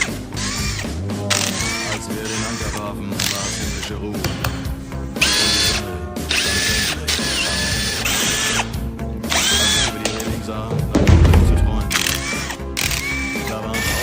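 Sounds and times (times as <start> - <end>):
power drill whining: 0.0 - 10.7, 11.7 - 14.0
background music: 0.0 - 14.0.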